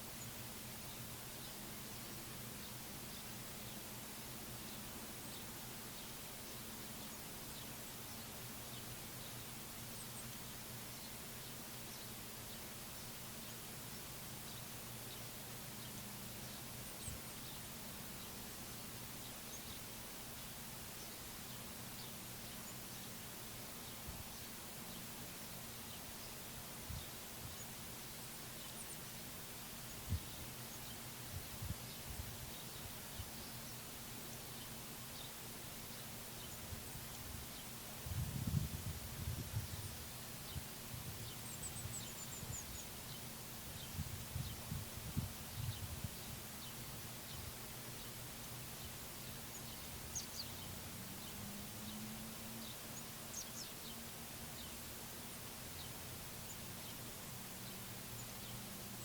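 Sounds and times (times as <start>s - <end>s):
distant songbird chirps: 0.0s - 59.0s
outdoor hiss: 0.0s - 59.0s.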